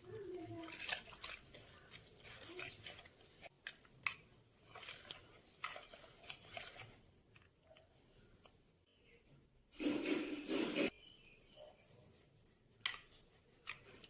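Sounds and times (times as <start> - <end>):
food scraping and squishing: 0.0 - 8.6, 9.8 - 14.0.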